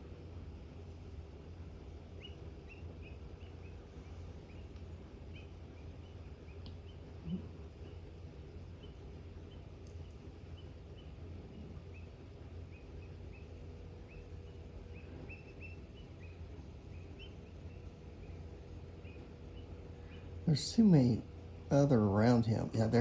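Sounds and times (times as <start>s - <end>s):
low outdoor rumble: 0.0s - 23.0s
bird chirping: 2.2s - 8.1s, 8.7s - 23.0s.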